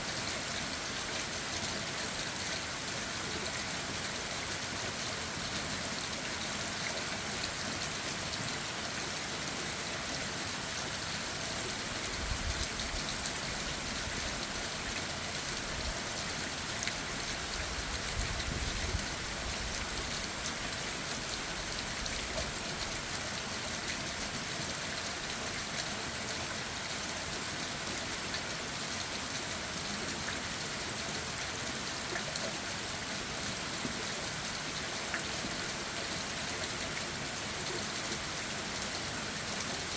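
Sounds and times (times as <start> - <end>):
rain on leaves and ground: 0.0 - 39.9.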